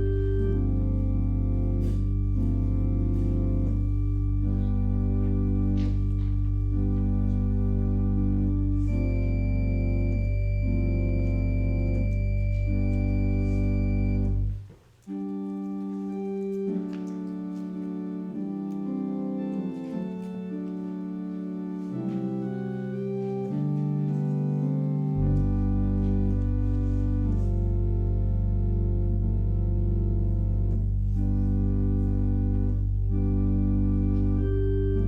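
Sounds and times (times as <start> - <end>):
church organ chords: 0.0 - 35.0
deep organ bass pedal notes: 0.0 - 35.0.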